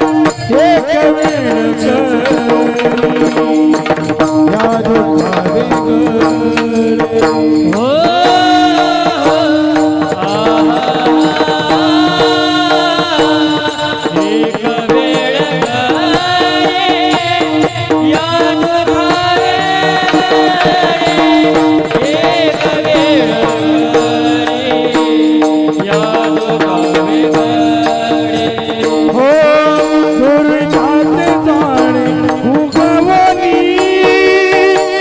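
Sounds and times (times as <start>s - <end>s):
tabla: 0.0s - 35.0s.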